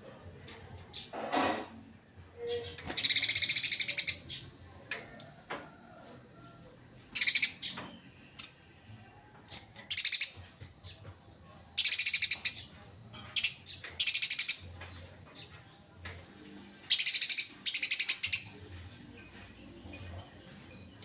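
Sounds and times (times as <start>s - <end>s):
sparrows chattering: 0.8s - 5.3s, 7.1s - 21.0s.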